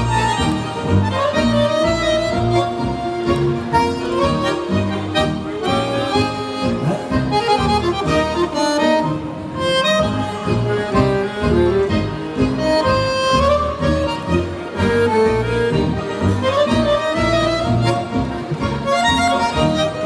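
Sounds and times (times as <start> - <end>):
bandoneon melody: 0.0 - 20.0.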